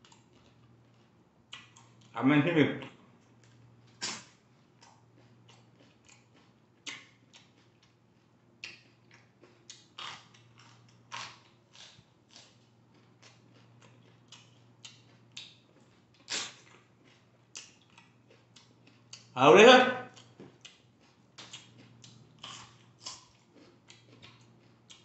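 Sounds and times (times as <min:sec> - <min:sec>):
crunchy chewing of raw vegetables: 0:00.0 - 0:02.1, 0:02.8 - 0:19.4, 0:20.1 - 0:25.0.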